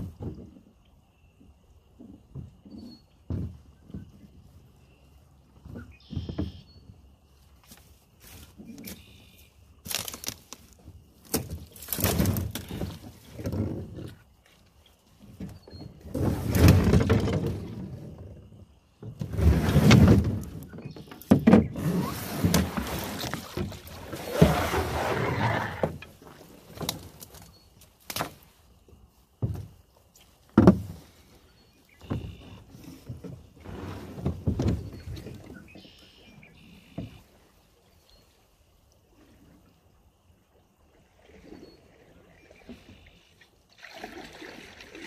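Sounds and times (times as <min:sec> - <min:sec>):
paddle swishing through water: 0:01.8 - 0:45.0.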